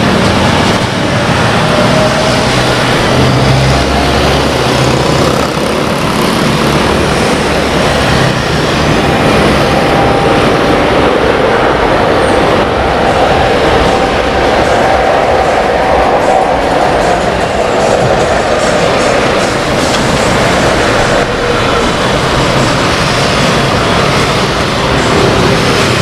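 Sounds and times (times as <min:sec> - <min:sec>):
jet engine roar: 0:00.0 - 0:26.0
jet engine whine: 0:00.0 - 0:26.0.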